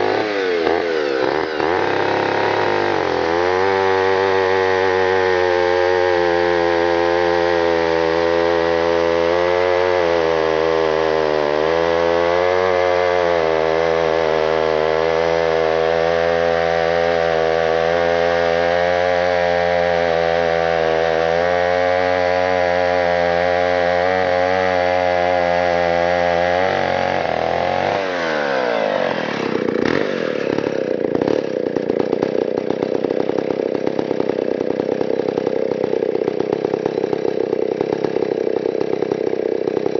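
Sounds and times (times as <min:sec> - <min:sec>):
chainsaw cutting at full throttle: 0:00.0 - 0:39.9
chainsaw idling: 0:00.0 - 0:39.9.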